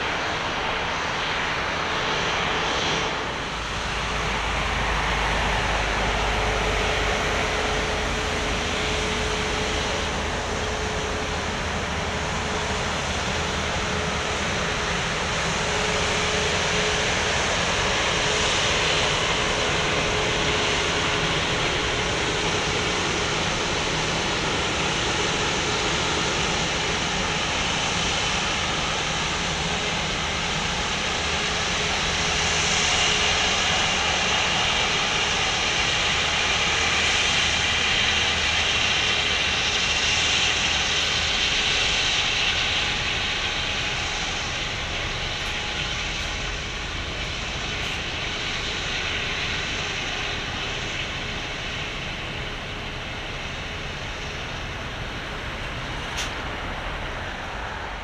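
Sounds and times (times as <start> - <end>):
jet engine whine and rush: 0.0 - 58.0.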